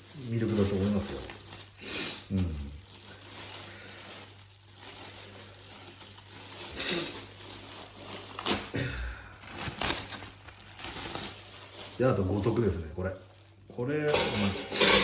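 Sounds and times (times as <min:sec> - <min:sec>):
rustling and clattering handling: 0:00.0 - 0:01.8, 0:02.8 - 0:08.8, 0:09.5 - 0:15.0.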